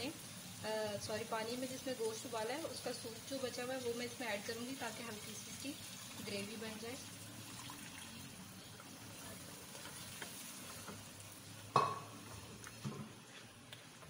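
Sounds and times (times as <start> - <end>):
stock sizzling in hot pan: 0.0 - 14.0.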